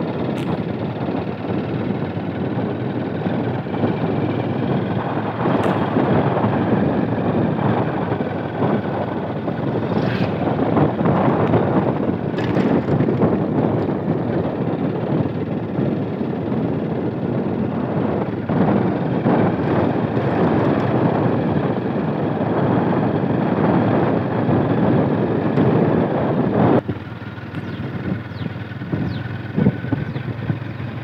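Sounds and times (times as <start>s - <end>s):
motorcycle engine rumble: 0.0s - 31.0s.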